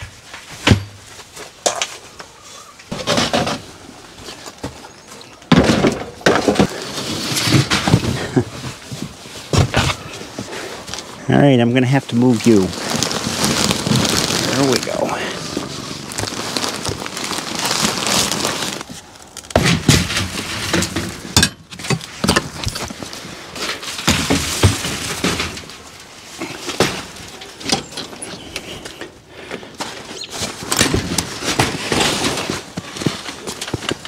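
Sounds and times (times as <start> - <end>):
knocks clatters and scraping: 2.8 - 11.2, 12.2 - 34.0.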